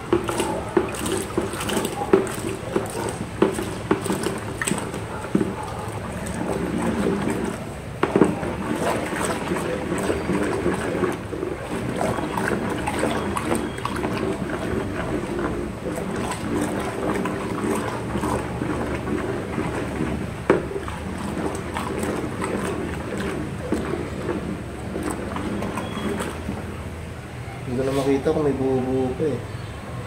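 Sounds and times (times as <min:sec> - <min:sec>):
pole knocking against bucket: 0:00.0 - 0:26.8
liquid sloshing in bucket: 0:00.0 - 0:29.2.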